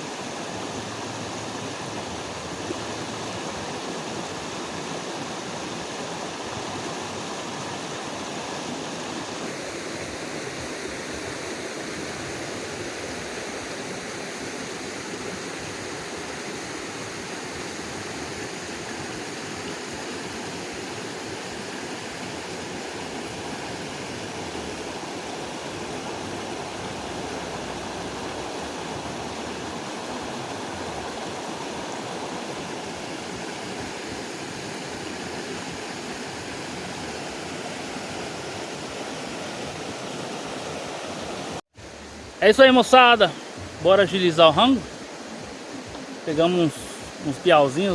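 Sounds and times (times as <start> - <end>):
creek water running: 0.0 - 47.9.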